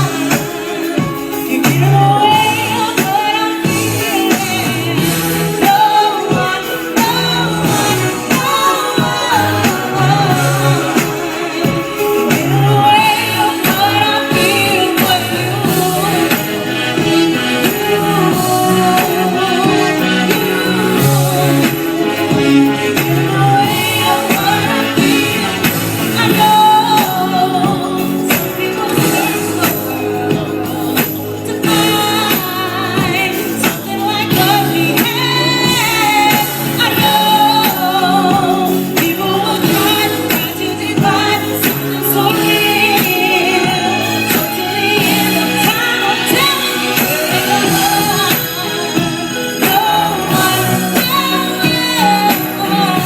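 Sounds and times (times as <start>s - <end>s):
lead singer: 0.0s - 53.0s
live band music: 0.0s - 53.0s
steady drum beat: 0.0s - 53.0s.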